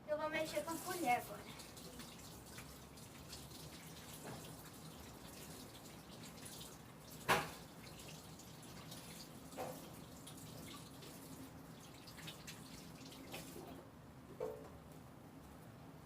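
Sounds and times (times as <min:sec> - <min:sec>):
water running from a tap: 0:00.4 - 0:13.8.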